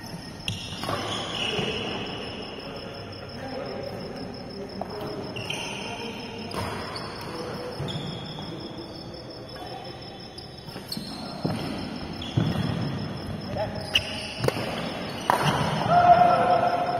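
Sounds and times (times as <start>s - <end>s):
insect chirping: 0.0s - 16.9s.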